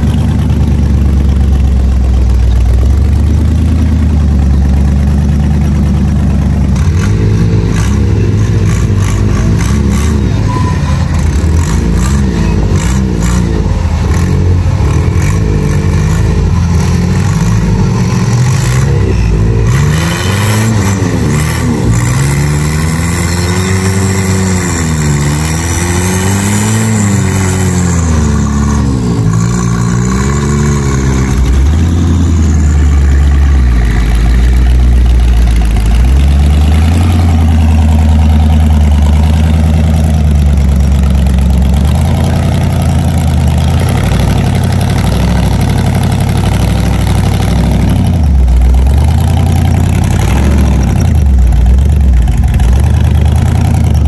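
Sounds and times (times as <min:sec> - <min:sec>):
engine revving under load: 0:06.6 - 0:54.0.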